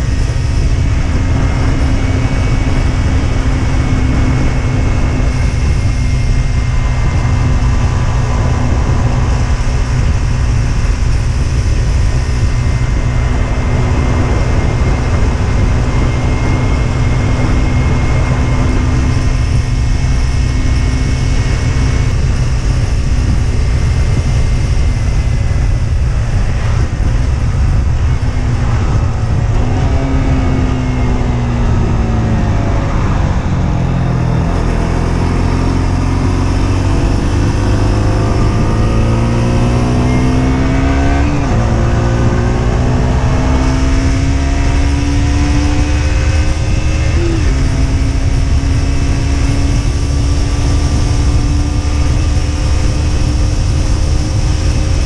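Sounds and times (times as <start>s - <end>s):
low wind rumble: 0.0s - 55.0s
motorcycle engine running: 0.0s - 55.0s.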